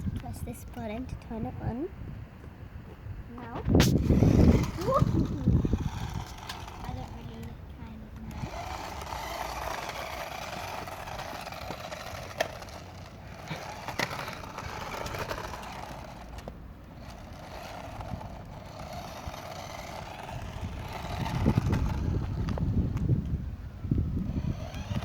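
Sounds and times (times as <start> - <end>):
toy car motor whirring: 3.8 - 25.0.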